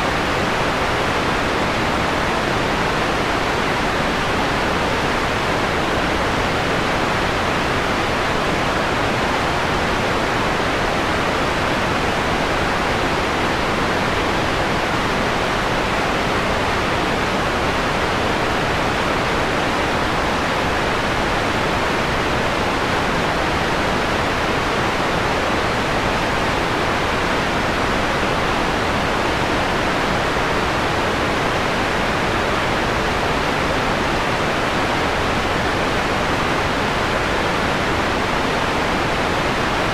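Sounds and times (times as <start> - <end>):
filtered white noise hiss: 0.0 - 39.9.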